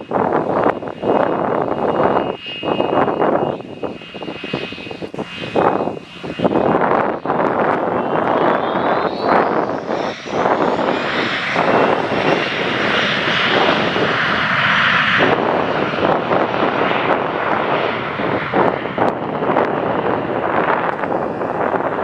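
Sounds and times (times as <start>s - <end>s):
high jet whine: 0.0s - 22.0s
jet engine roar: 0.0s - 22.0s.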